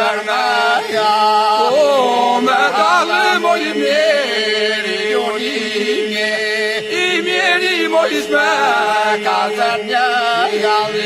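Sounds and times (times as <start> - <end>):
group singing folk song: 0.0 - 11.0
sustained vocal drone: 0.0 - 11.0.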